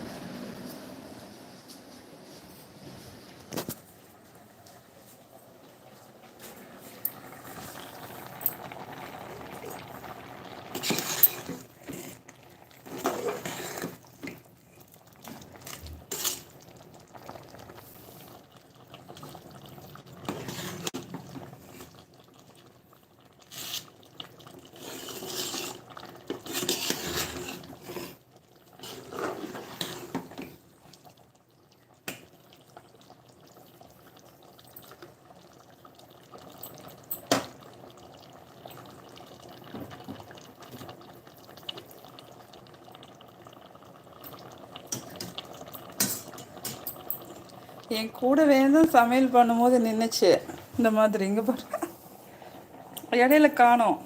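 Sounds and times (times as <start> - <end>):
water running and pouring: 5.3 - 53.8.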